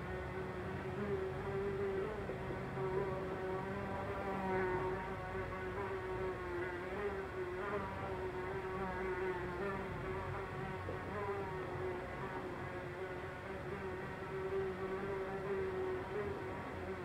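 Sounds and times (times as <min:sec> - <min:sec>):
housefly buzzing: 0:00.4 - 0:17.0.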